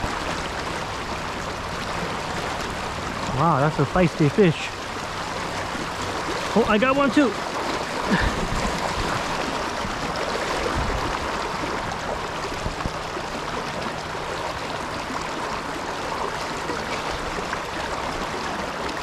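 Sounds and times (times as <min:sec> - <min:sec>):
fast river rushing: 0:00.0 - 0:19.0.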